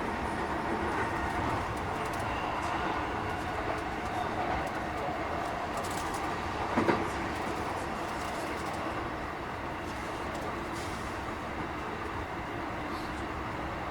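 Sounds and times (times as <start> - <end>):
train wheels and motors rumbling: 0.0 - 13.9.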